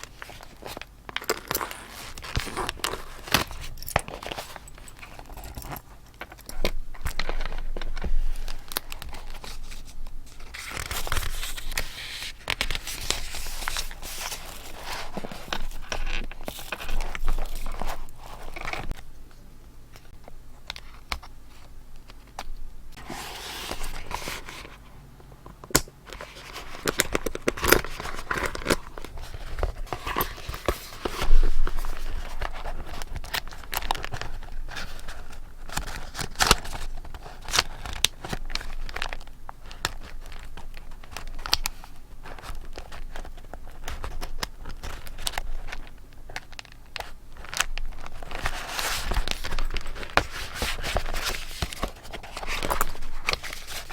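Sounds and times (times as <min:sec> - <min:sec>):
paper crinkling and rustling: 0:00.0 - 0:19.0, 0:20.7 - 0:24.9, 0:25.6 - 0:53.9.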